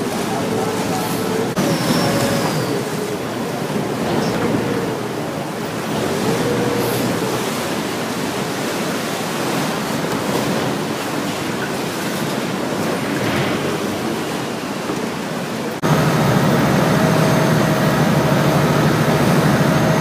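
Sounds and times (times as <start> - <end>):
wake water rushing along hull: 0.0 - 20.0.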